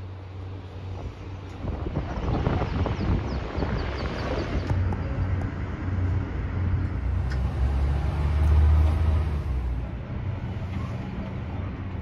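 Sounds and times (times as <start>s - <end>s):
cable car gondola rumble and hum: 0.0s - 12.0s.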